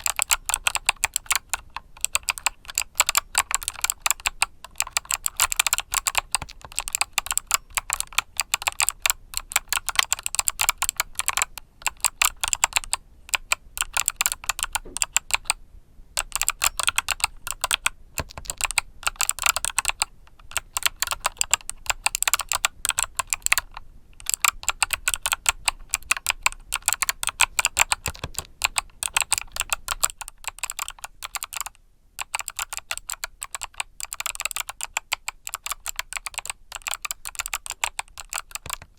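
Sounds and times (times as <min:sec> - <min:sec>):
mechanical keyboard key clicks: 0:00.0 - 0:15.6, 0:16.2 - 0:38.9.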